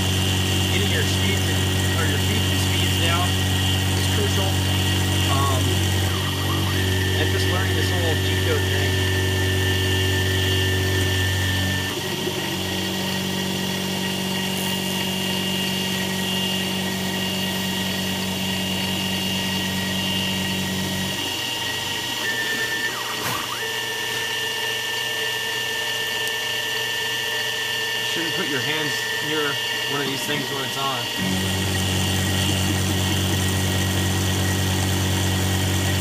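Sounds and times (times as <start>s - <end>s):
low drive hum: 0.0s - 23.2s, 24.0s - 36.0s
milling machine whine: 0.0s - 36.0s.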